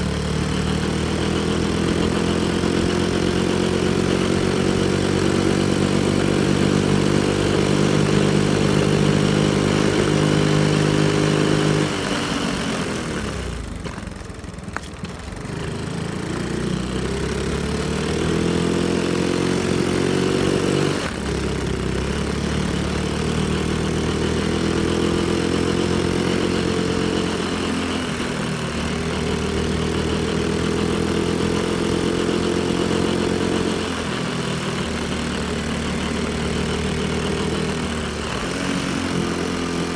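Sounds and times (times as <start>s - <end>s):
small motorbike engine running: 0.0s - 39.9s.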